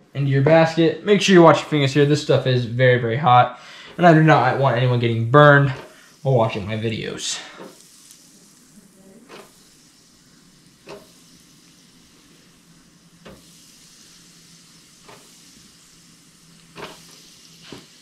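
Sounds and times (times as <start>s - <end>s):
fryer oil hissing: 0.0s - 18.0s.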